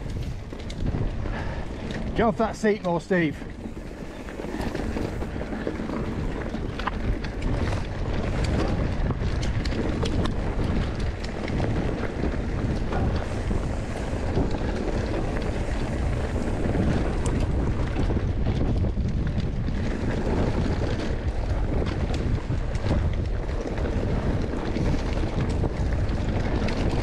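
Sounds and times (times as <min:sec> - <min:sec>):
bike clicks and rattles: 0:00.0 - 0:27.0
bike tyres rolling on dirt: 0:00.0 - 0:27.0
wind buffeting microphone: 0:00.0 - 0:27.0.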